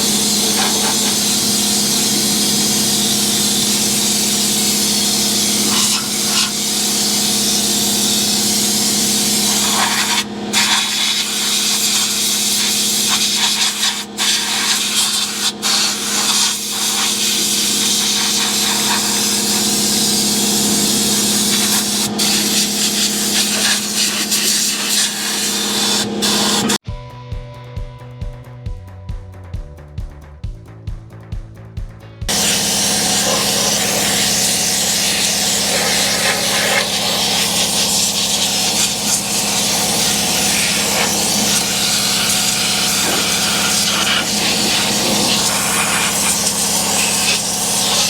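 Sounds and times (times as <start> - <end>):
spray gun hissing: 0.0 - 26.8, 32.3 - 48.0.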